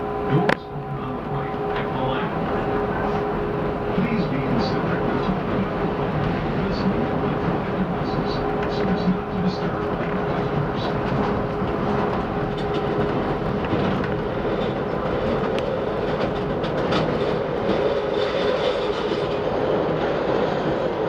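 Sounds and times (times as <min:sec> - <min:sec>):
rail joint clicks: 0:00.0 - 0:21.0
train wheels rumbling on rail: 0:00.0 - 0:21.0.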